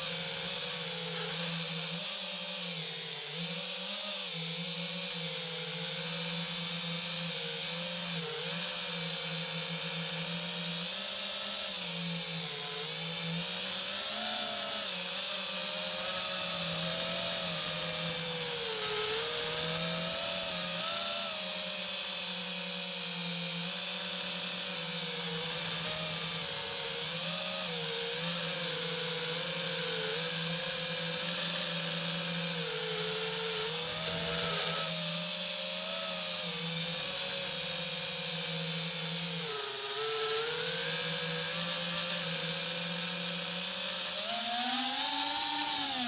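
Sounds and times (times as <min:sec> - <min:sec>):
quadcopter motors whining: 0:00.0 - 0:46.0.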